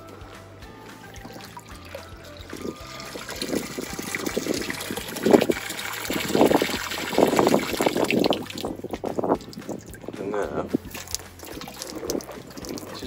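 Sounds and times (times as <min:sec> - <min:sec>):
water spurting and splashing: 0:00.8 - 0:13.0
hand pump handle strokes: 0:01.1 - 0:13.0.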